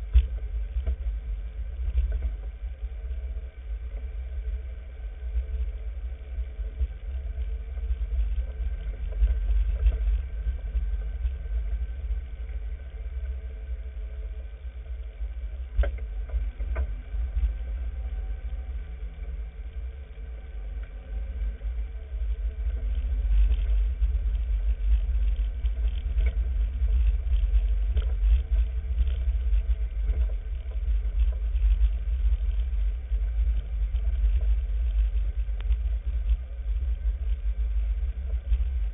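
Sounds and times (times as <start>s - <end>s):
off-road vehicle engine rumble: 0.0s - 38.9s.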